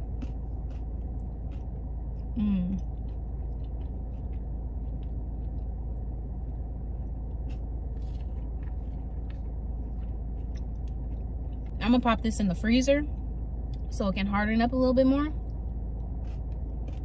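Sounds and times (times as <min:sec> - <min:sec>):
car cabin low rumble: 0:00.0 - 0:17.0.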